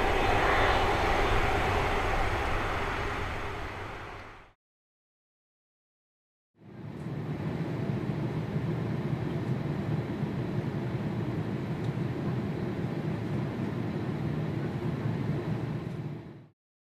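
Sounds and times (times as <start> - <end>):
airliner cabin rumble and hiss: 0.0 - 4.5, 6.7 - 16.4.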